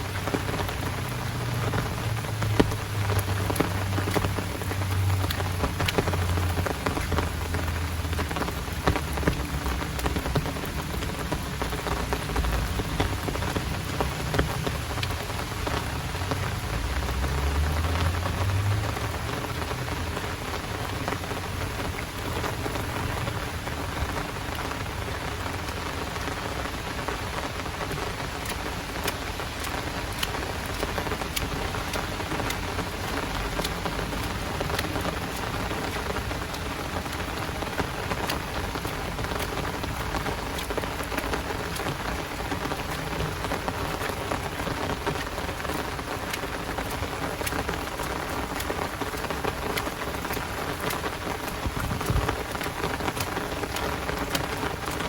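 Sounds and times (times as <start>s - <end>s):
close raindrop ticks: 0.0s - 55.0s
heavy rain falling: 0.0s - 55.0s.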